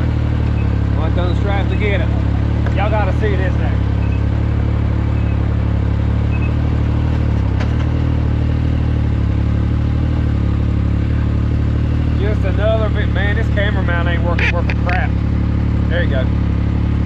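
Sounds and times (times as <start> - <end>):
engine idling: 0.0 - 7.4, 10.4 - 17.0.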